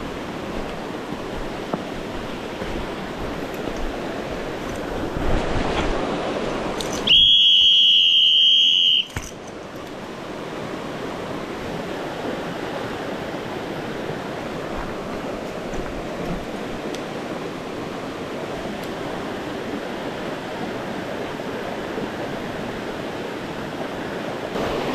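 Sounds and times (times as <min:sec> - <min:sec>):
mountain stream rushing: 0:00.0 - 0:24.9.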